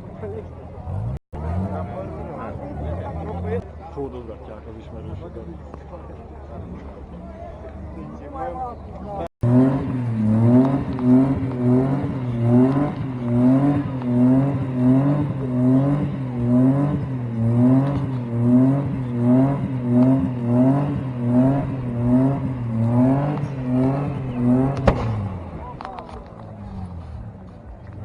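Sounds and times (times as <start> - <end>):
car engine revving: 0.1 - 4.0, 9.3 - 28.0.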